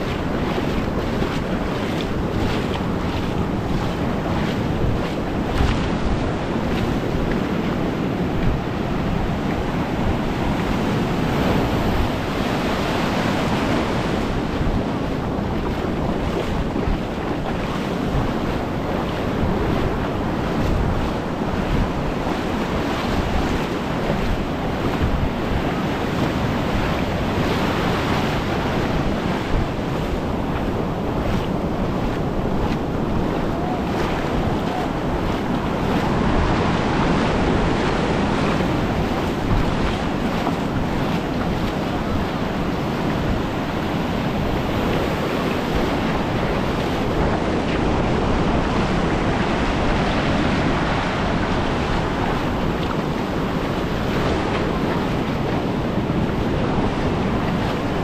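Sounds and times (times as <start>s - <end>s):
sea waves washing onto beach: 0.0s - 58.0s
wind rumbling on microphone: 0.0s - 58.0s.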